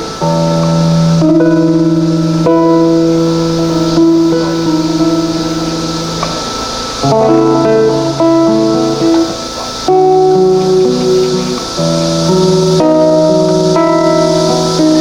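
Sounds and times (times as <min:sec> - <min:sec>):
live band playing held chords: 0:00.0 - 0:15.0.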